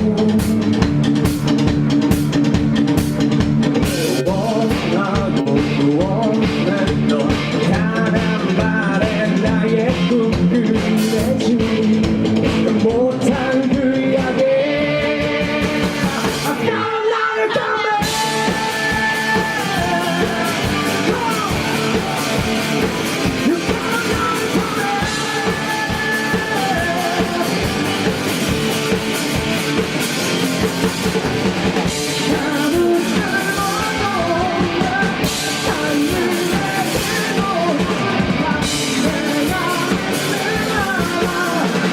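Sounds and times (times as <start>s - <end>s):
person singing: 0.0s - 0.9s, 3.8s - 28.6s, 32.0s - 41.9s
live rock band playing: 0.0s - 41.9s.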